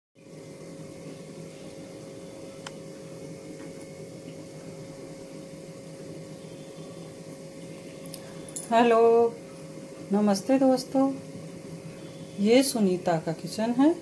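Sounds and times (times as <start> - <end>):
room hum with steady tone: 0.2 - 14.0.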